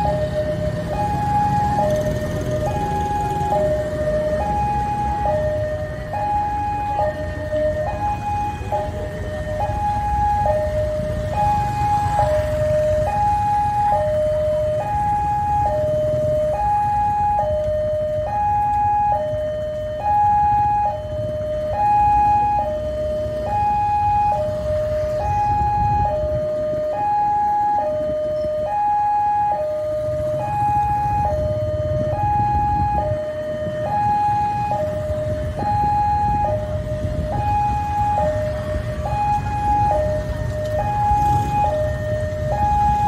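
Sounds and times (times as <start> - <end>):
level crossing warning bell: 0.0 - 43.0
motorcycle engines rumbling: 0.0 - 43.0.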